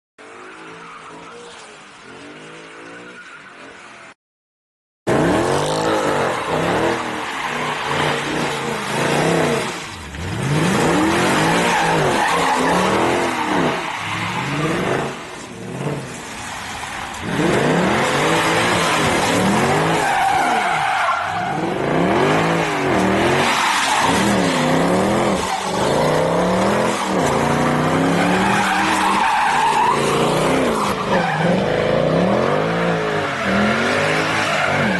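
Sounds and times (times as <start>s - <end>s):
car engine revving: 5.1s - 34.9s.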